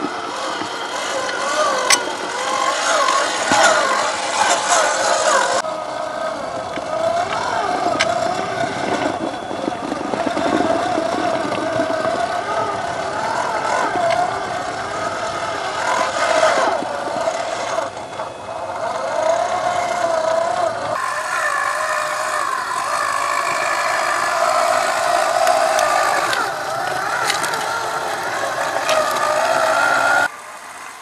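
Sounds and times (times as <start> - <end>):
rc car motor whining: 0.0 - 31.0.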